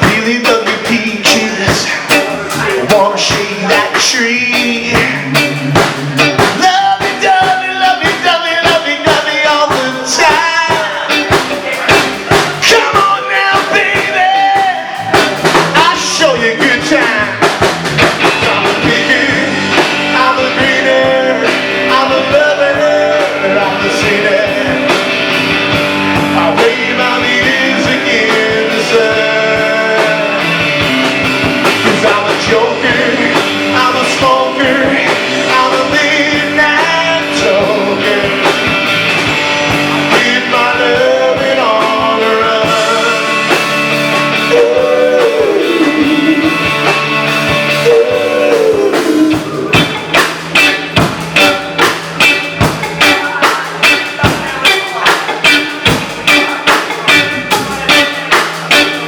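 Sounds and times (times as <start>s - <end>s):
lead guitar soloing: 0.0s - 59.0s
rock band playing: 0.0s - 59.0s.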